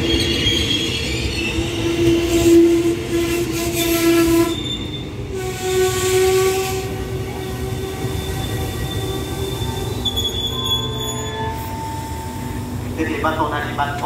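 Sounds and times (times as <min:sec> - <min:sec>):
wheels and brakes squealing: 0:00.0 - 0:12.6
train coaches rumbling: 0:00.0 - 0:14.0.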